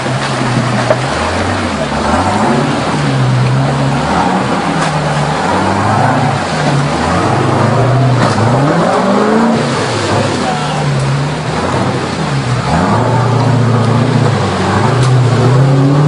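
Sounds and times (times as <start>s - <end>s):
truck engine running under load: 0.0s - 16.0s.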